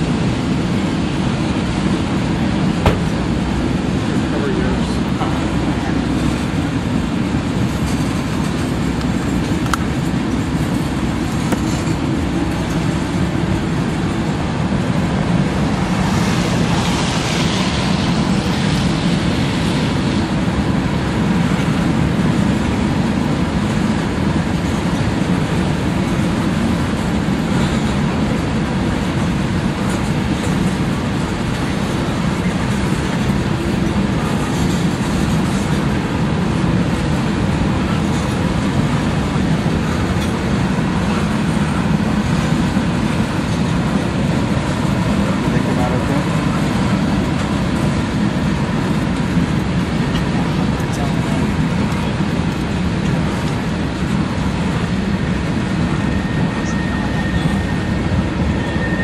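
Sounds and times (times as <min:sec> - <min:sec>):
freight train wheels rumbling on track: 0:00.0 - 0:59.0.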